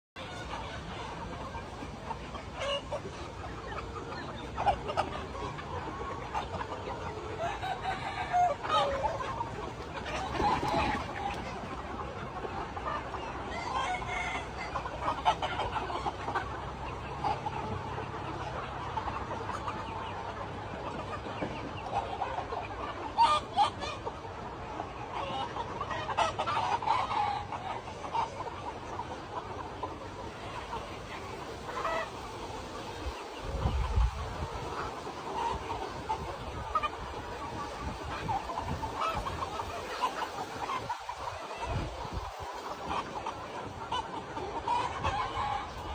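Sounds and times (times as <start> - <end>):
chickens clucking and calling: 0.2 - 45.9.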